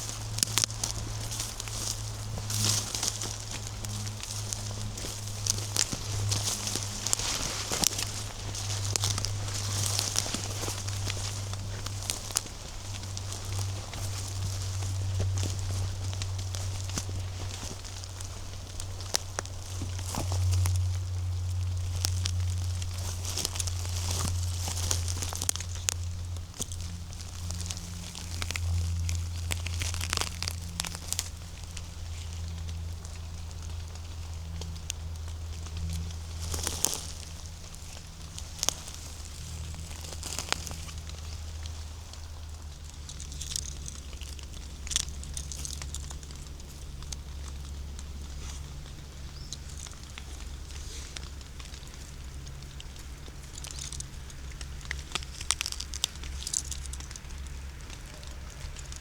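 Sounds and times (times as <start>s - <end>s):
footsteps crunching through dry leaves: 0.0s - 59.0s
steady low rumble: 0.0s - 59.0s
twigs snapping: 0.0s - 59.0s.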